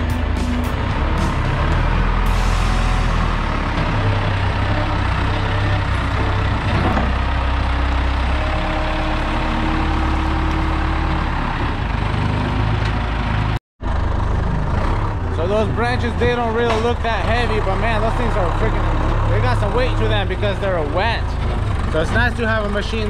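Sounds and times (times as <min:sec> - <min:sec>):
forklift engine rumble: 0:00.0 - 0:23.0.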